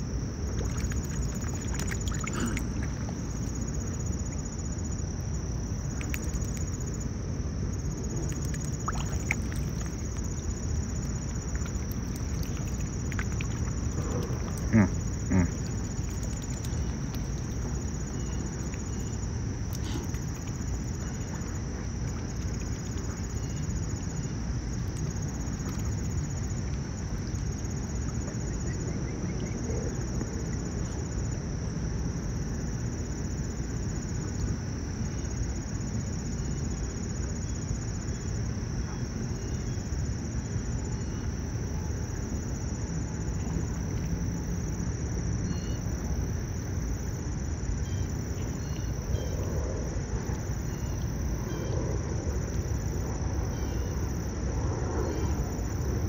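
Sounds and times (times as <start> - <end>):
high insect chorus: 0.0 - 56.0.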